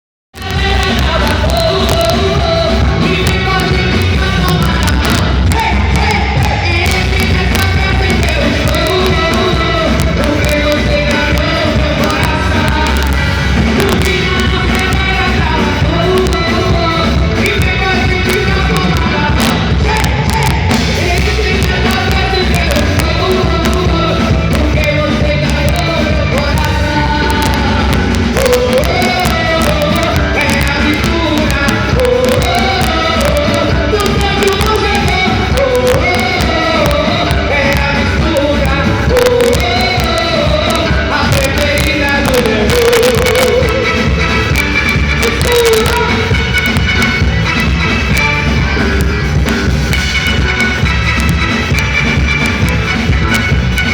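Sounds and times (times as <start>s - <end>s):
amplified band music: 0.3s - 53.9s
person singing: 0.4s - 53.9s.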